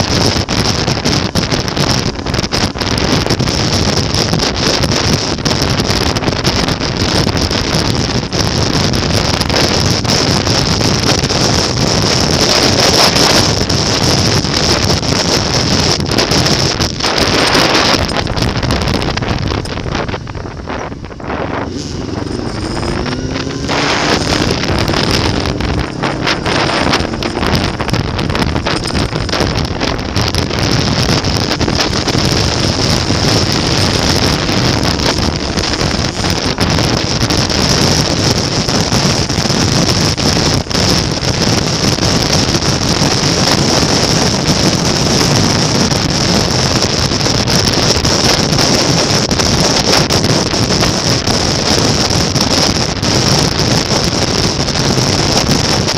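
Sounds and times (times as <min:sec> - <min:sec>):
motorcycle engine running: 0:00.0 - 0:55.9
wind roar on microphone: 0:00.0 - 0:55.9.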